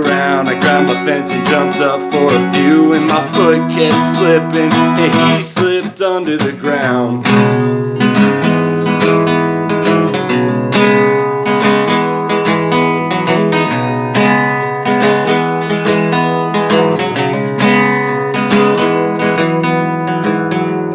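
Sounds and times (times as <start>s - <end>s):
acoustic guitar strumming: 0.0s - 20.9s.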